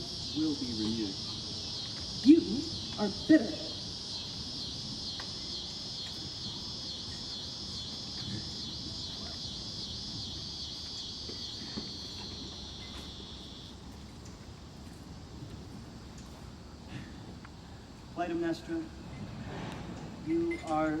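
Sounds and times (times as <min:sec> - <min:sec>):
insect high buzz: 0:00.0 - 0:21.0.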